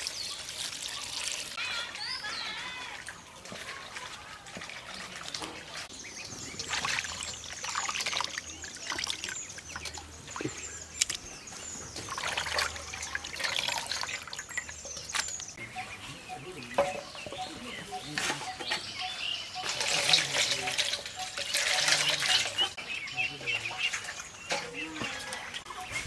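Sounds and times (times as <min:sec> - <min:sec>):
water trickling and splashing: 0:00.0 - 0:15.6, 0:16.8 - 0:26.0.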